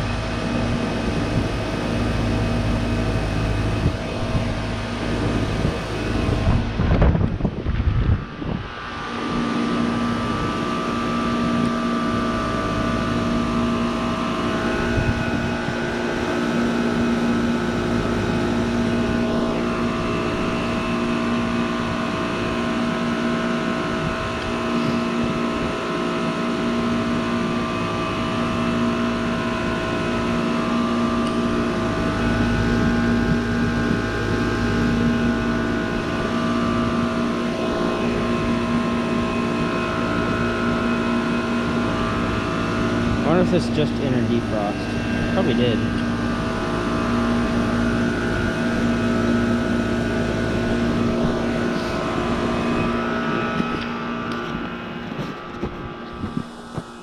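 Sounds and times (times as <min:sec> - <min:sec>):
heat pump compressor hum: 0:00.0 - 0:57.0.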